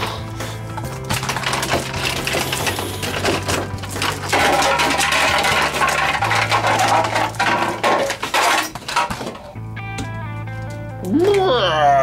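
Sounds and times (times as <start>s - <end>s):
plastic toys clattering together: 0.0s - 11.5s.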